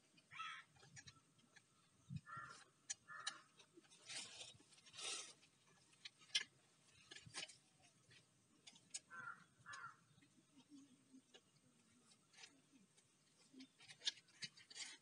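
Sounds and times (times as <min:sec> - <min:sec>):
tool handling clicks and rustling: 0:00.0 - 0:09.1, 0:09.7 - 0:15.0.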